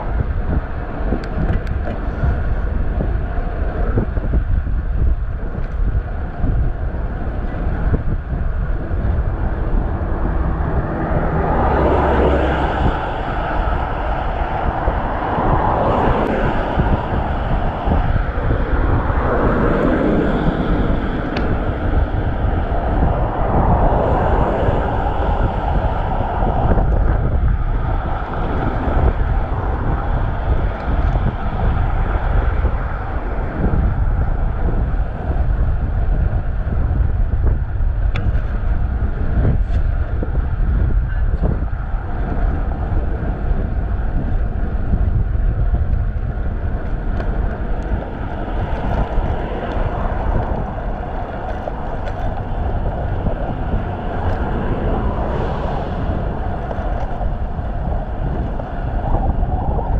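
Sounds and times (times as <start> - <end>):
road traffic noise: 0.0 - 59.9
wind buffeting microphone: 0.0 - 59.9.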